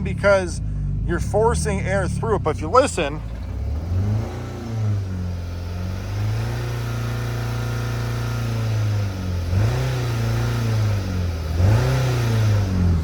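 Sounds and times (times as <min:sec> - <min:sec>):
car engine revving roughly: 0:00.0 - 0:13.0.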